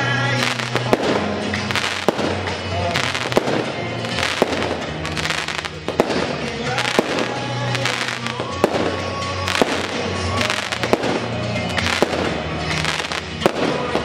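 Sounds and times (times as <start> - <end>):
background music: 0.0 - 14.0
fireworks bangs: 0.3 - 14.0.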